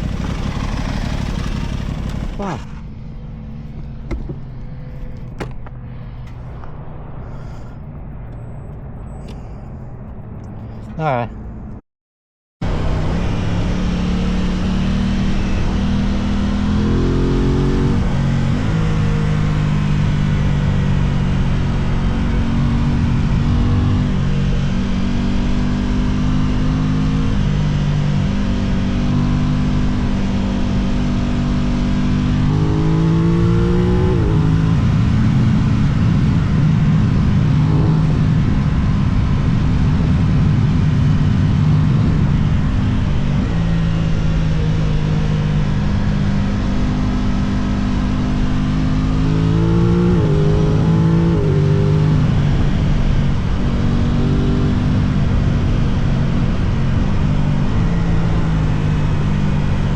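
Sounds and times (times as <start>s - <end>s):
motorcycle engine revving: 0.0s - 5.8s, 12.6s - 59.9s.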